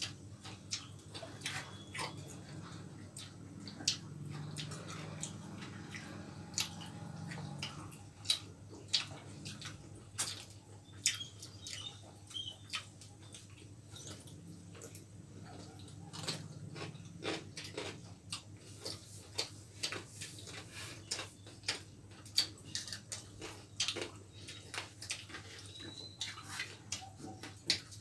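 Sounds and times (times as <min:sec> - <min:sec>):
faint low hum: 0:00.0 - 0:28.0
people chewing food: 0:00.0 - 0:28.0.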